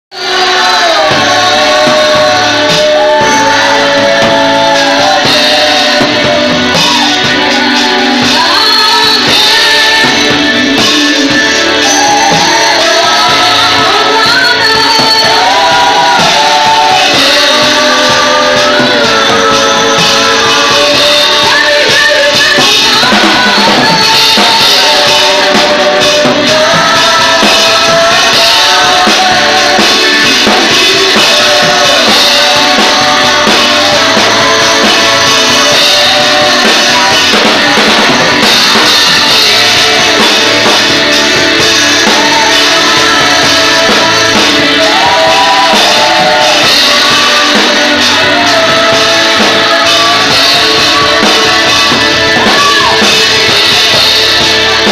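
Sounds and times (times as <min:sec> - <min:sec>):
backing music with drums: 0:00.1 - 0:54.9
woman singing into a microphone: 0:00.1 - 0:54.9.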